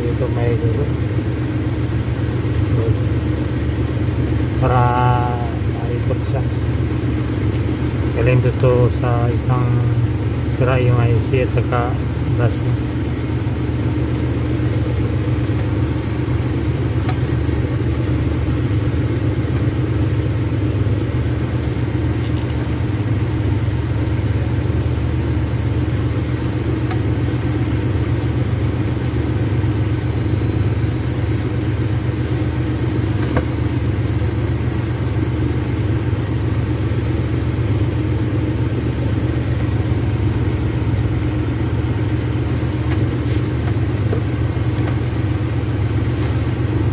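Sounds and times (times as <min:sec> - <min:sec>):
machine humming steadily: 0:00.0 - 0:46.9.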